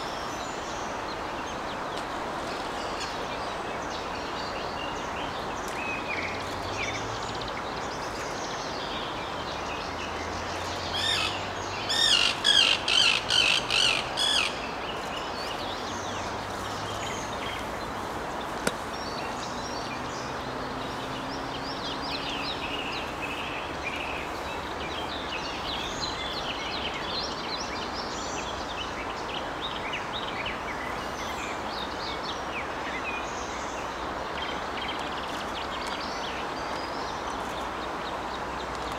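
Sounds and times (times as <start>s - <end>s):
outdoor background noise: 0.0s - 38.9s.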